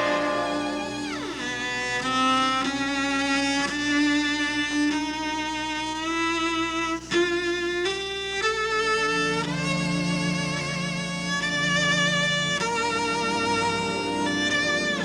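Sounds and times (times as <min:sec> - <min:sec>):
solo cello melody: 0:00.0 - 0:15.0.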